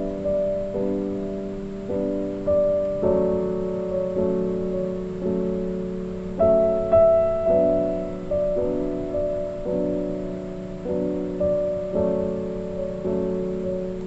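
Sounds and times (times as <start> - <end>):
gentle piano chords: 0.0 - 14.0.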